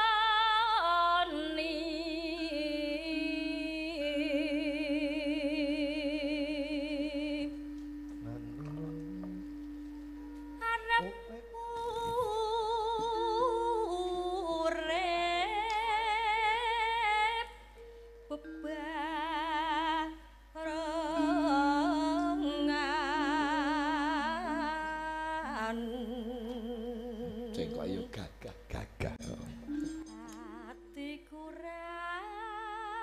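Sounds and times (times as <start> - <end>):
woman singing with vibrato: 0.0 - 8.1, 10.0 - 27.7, 29.6 - 33.0
gamelan held notes: 3.2 - 26.4, 29.0 - 32.4.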